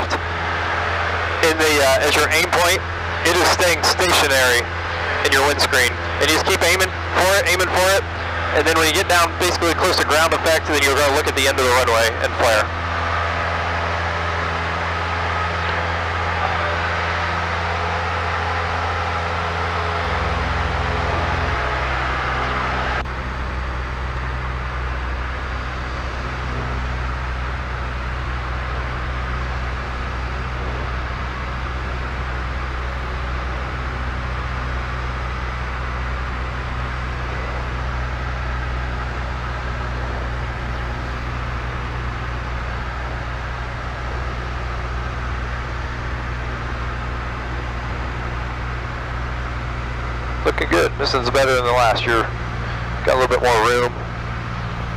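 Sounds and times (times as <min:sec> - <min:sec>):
airplane engine drone in cabin: 0:00.0 - 0:54.9.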